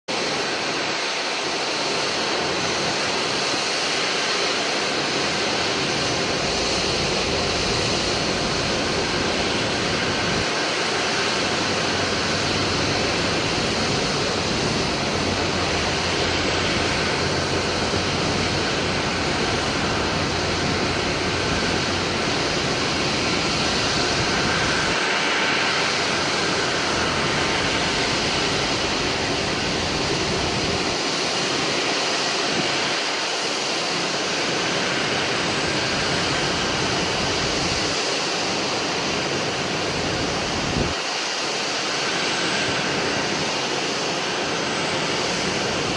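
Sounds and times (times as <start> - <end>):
jet engine rushing: 0.1 - 45.9.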